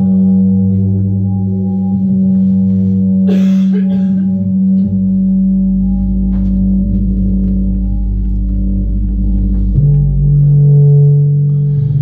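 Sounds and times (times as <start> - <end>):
deep low rumble: 0.0 - 12.0
low musical drone: 0.0 - 12.0.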